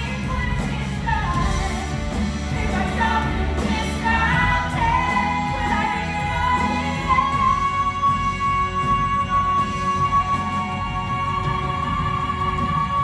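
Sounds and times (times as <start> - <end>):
rock band playing: 0.0 - 13.0
woman singing: 0.0 - 13.0.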